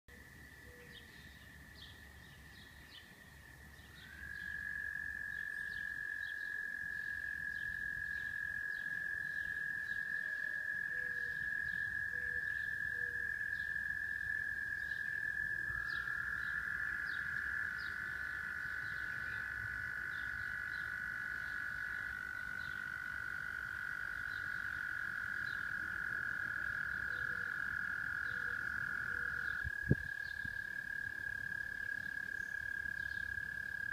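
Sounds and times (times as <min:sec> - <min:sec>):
frogs trilling: 0:00.1 - 0:33.9
lower frog trill: 0:04.2 - 0:33.9.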